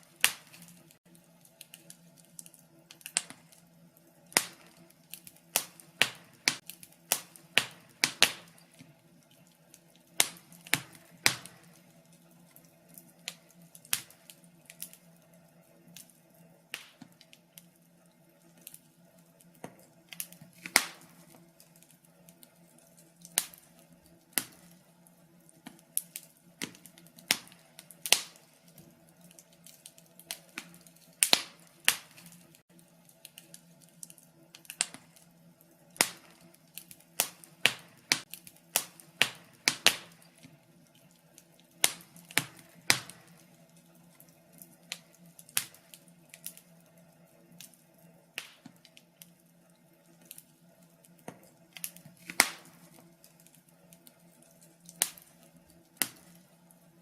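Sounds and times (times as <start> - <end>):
faint steady hum: 0.0 - 57.0
wood fire crackling: 0.0 - 57.0.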